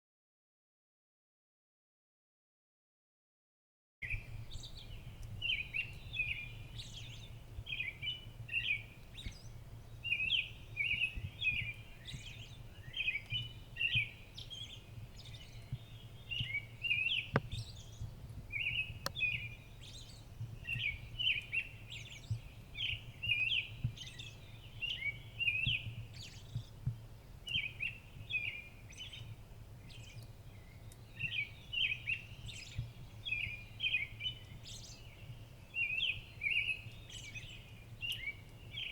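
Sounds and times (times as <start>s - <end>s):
songbirds chirping: 4.0s - 38.9s.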